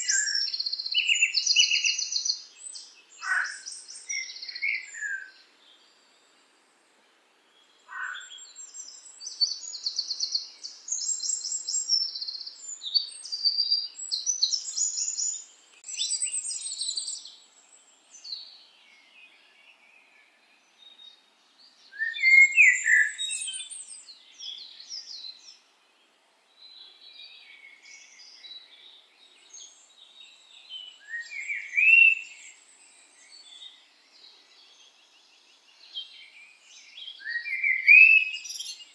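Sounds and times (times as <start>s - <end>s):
wild birds chirping and singing: 0.0s - 38.9s.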